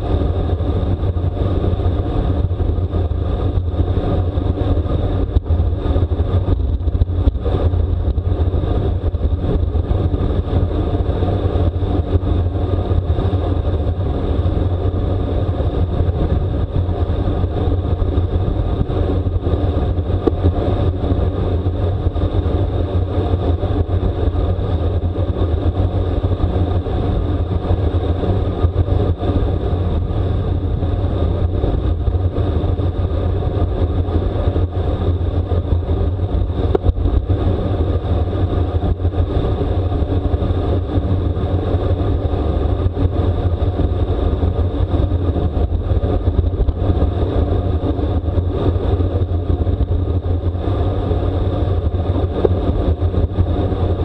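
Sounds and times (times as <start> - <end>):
wind rush and low rumble: 0.0 - 54.0.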